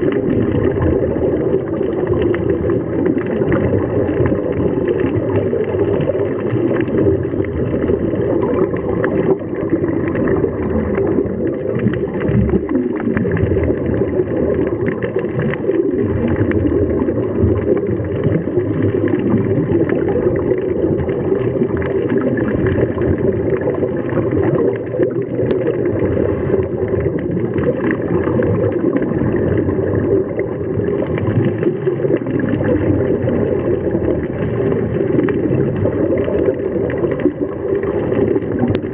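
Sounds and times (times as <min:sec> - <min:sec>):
underwater rushing and gurgling: 0:00.0 - 0:38.9.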